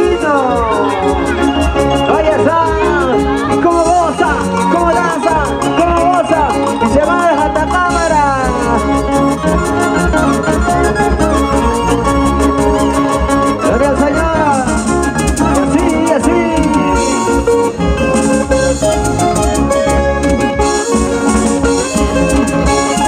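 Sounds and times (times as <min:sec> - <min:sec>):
band playing dance music: 0:00.0 - 0:23.0.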